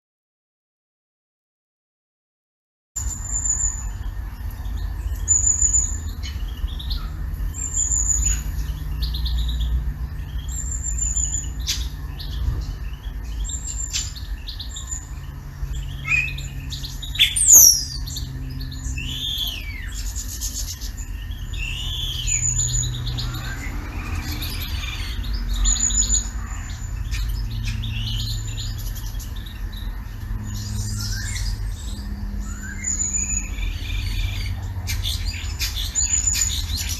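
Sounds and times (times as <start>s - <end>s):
bird trill: 3.0s - 36.9s
birds chirping: 3.0s - 36.9s.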